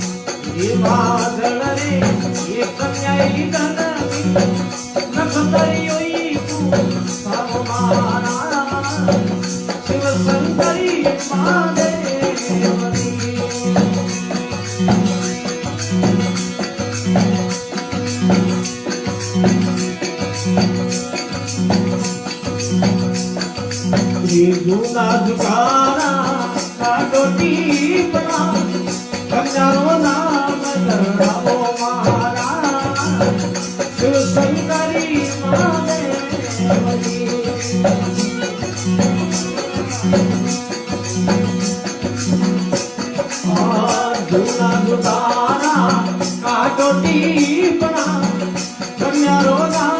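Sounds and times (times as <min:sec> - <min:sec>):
jingling percussion: 0:00.0 - 0:49.9
string melody line: 0:00.0 - 0:49.9.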